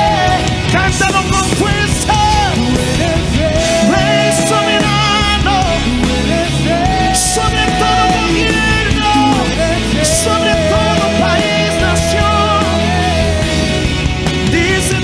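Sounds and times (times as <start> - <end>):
rock band playing loudly: 0.0 - 15.0
sliding lead melody: 0.0 - 15.0.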